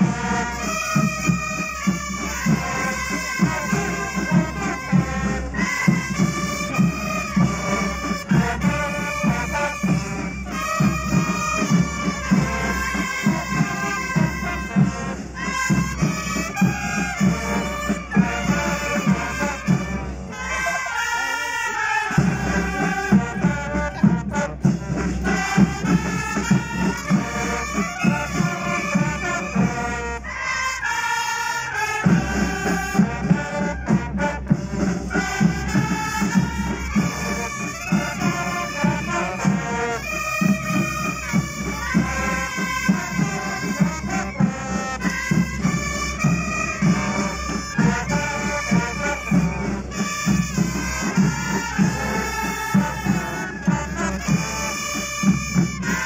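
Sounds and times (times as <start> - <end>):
steady drum beat: 0.0 - 30.3, 31.9 - 56.0
brass marching band playing: 0.0 - 56.0.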